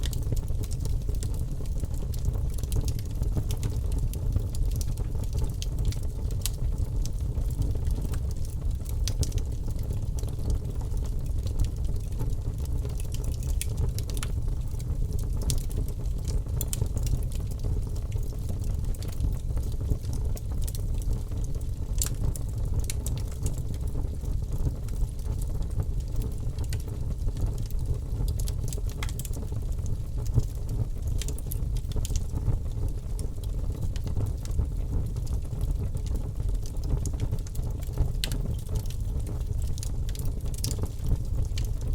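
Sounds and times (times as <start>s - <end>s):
logs crackling and popping: 0.0s - 41.9s
low rumble of flames: 0.0s - 41.9s.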